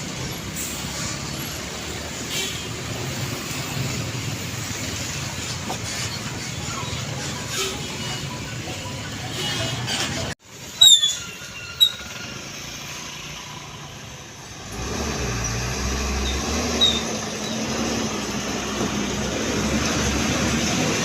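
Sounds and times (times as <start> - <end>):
heavy vehicle engine and tyres: 0.0 - 21.0.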